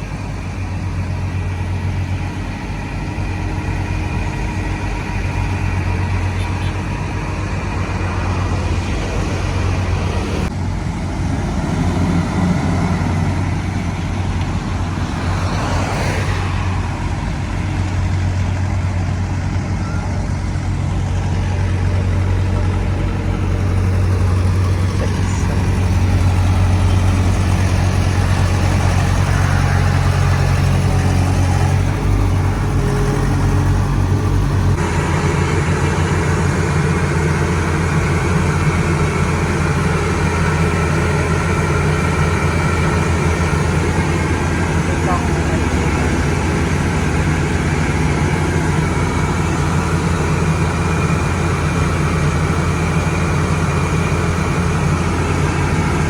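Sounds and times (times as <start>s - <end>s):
construction machinery engine hum: 0.0s - 56.0s.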